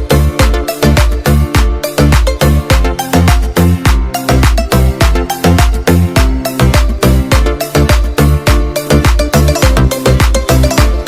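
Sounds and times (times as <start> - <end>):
bass-heavy dance music: 0.0 - 11.0.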